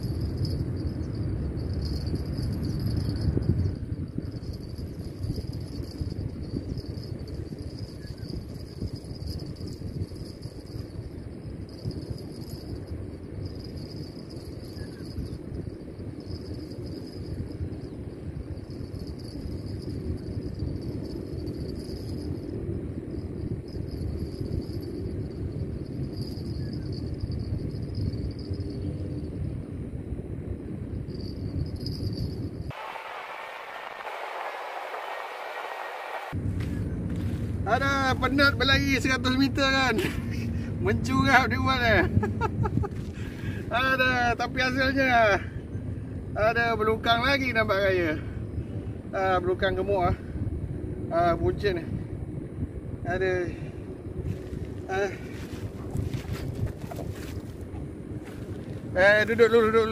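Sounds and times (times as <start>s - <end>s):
insects droning: 0.0s - 59.9s
wind buffeting microphone: 0.0s - 59.9s.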